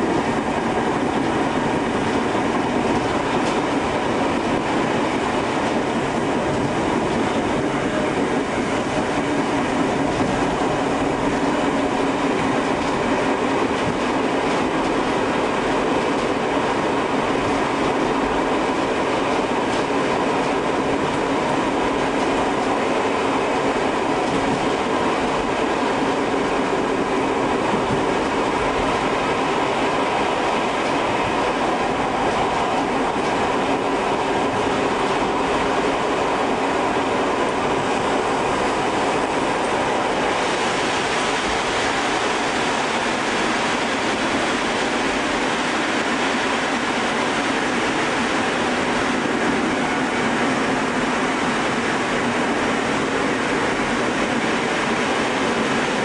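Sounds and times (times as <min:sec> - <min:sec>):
electric train running: 0:00.0 - 0:56.0.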